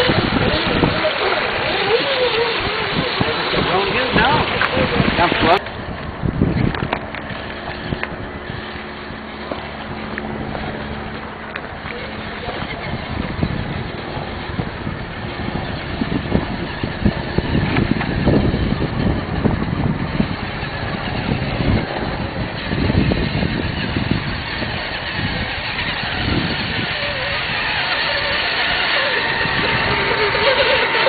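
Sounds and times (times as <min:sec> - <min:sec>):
toy truck motors running: 0:00.0 - 0:05.7, 0:06.7 - 0:31.0
water sloshing around wheels: 0:00.0 - 0:31.0.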